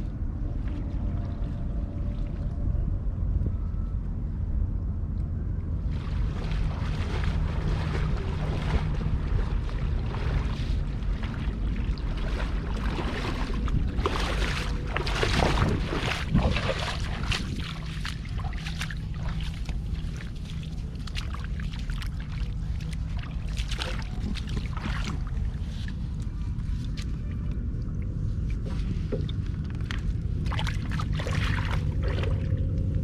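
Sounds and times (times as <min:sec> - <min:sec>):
water splashing and sloshing: 0:00.0 - 0:03.6, 0:05.6 - 0:33.0
steady low rumble: 0:00.0 - 0:33.0.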